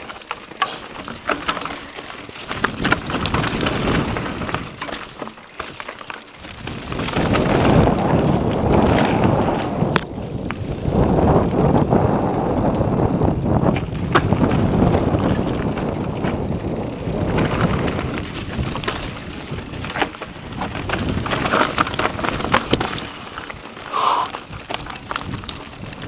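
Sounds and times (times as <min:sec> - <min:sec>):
bike clicks and rattles: 0:00.0 - 0:26.0
tyres crunching over ground: 0:00.0 - 0:26.0
wind rushing over microphone: 0:02.4 - 0:05.0, 0:06.4 - 0:26.0.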